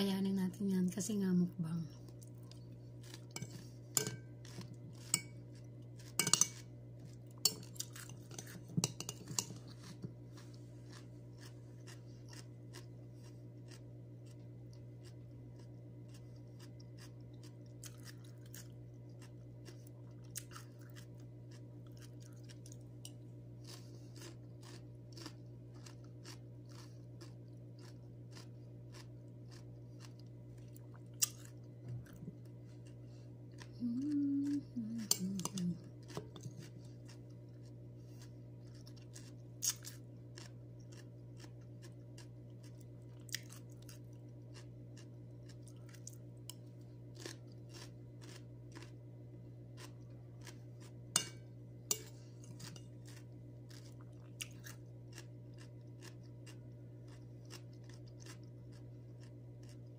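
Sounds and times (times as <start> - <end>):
low hum: 0.0 - 59.9
chewing and crunching cucumber: 1.7 - 59.9.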